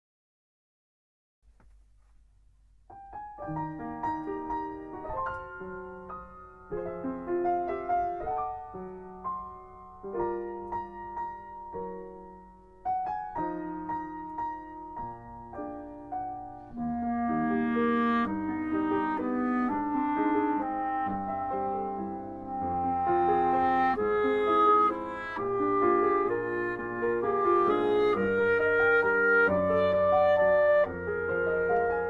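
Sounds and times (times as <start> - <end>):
piano music: 2.9 - 32.0.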